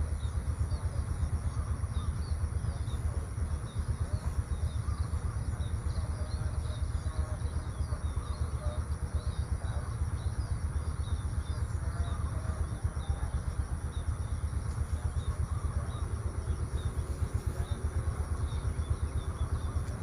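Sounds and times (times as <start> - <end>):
low continuous rumble: 0.0 - 20.0
small birds chirping: 0.0 - 20.0.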